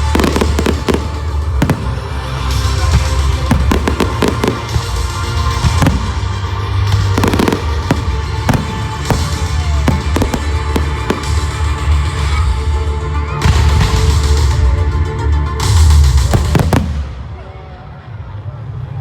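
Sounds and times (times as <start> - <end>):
fireworks bangs and crackles: 0.0 - 17.7.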